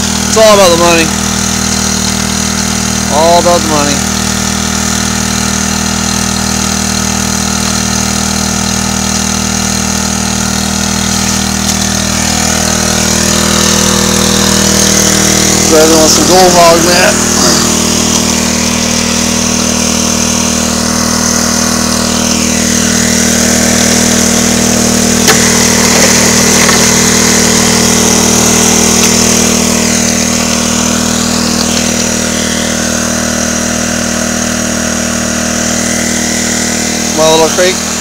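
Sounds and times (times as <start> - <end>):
engine knock: 0.0 - 38.0
small gasoline engine running: 0.0 - 38.0.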